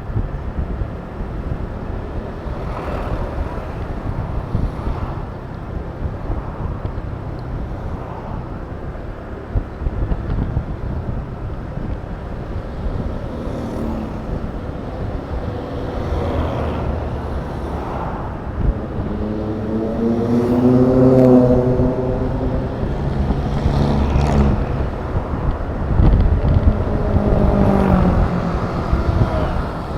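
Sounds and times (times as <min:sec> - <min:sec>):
scooter engine droning: 0:00.0 - 0:29.9
wind rushing over microphone: 0:00.0 - 0:29.9.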